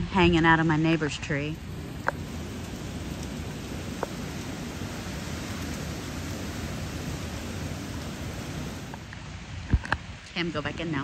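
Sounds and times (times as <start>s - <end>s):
hurricane wind: 0.0s - 11.0s
rain: 1.2s - 11.0s.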